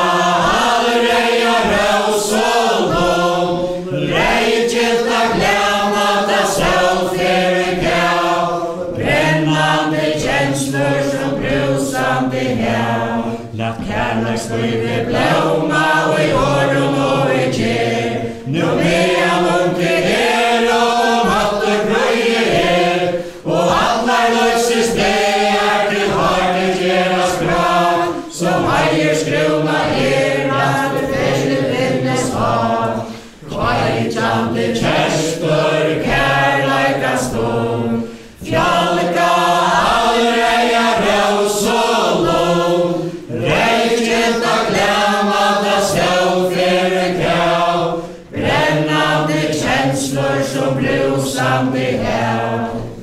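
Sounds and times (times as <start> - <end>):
group singing in unison: 0.0 - 53.0.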